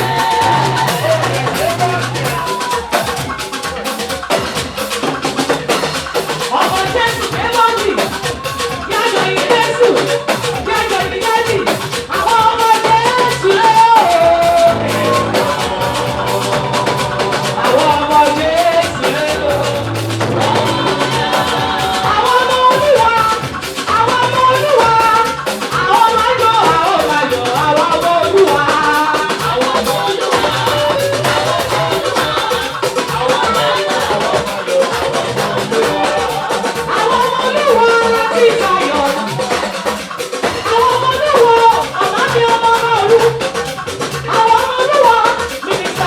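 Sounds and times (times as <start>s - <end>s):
gospel band playing up-tempo music: 0.0s - 46.0s
person singing: 0.0s - 46.0s.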